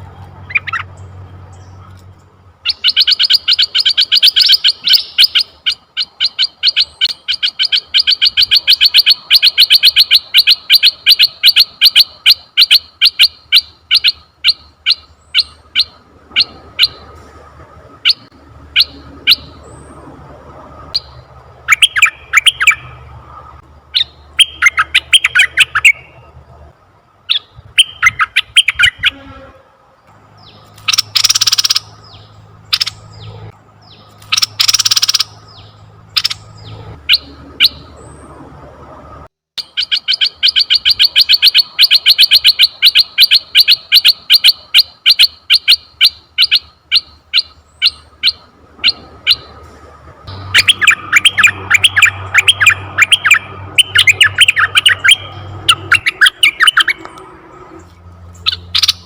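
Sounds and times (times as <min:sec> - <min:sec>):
harsh rasping bird calls: 0:00.0 - 0:17.2, 0:18.0 - 0:20.2, 0:20.8 - 0:26.3, 0:27.2 - 0:29.6, 0:30.3 - 0:38.4, 0:39.6 - 0:59.0
bird chirping: 0:00.0 - 0:17.3, 0:17.9 - 0:26.4, 0:27.2 - 0:29.3, 0:30.0 - 0:38.6, 0:39.6 - 0:49.7, 0:50.3 - 0:59.0
bird chattering: 0:00.4 - 0:01.7, 0:02.6 - 0:17.1, 0:18.0 - 0:19.8, 0:21.0 - 0:23.0, 0:23.9 - 0:26.2, 0:27.3 - 0:29.2, 0:30.4 - 0:38.0, 0:39.6 - 0:49.5, 0:50.3 - 0:57.2, 0:58.4 - 0:59.0.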